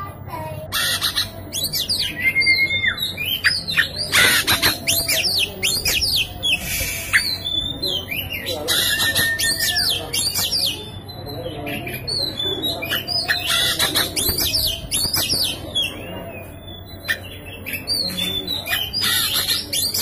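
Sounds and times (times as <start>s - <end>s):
bird singing whistled notes: 1.5s - 20.0s.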